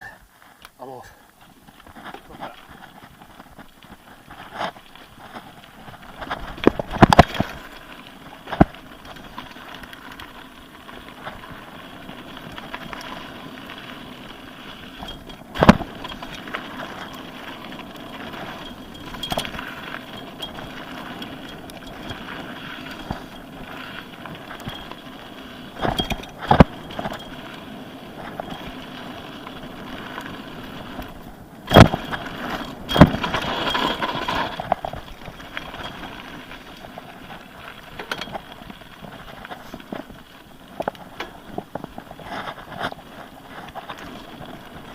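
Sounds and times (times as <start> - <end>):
tyre and wind noise: 0.0 - 44.9
bike clattering over bumps: 1.5 - 44.9.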